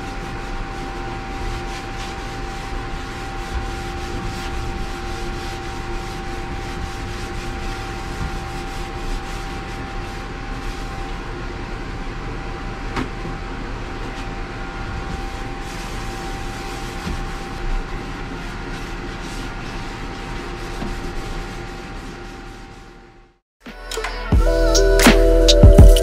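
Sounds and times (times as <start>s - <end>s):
ventilation blower drone: 0.0s - 26.0s.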